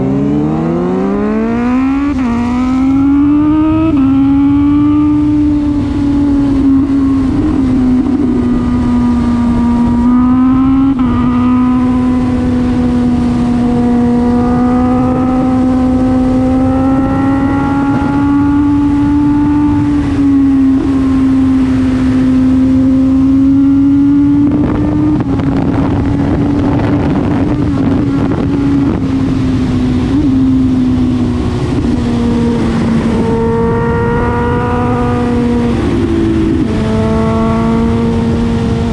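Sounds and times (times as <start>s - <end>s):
motorcycle engine while riding: 0.0s - 38.9s
wind rumble on microphone: 0.0s - 38.9s.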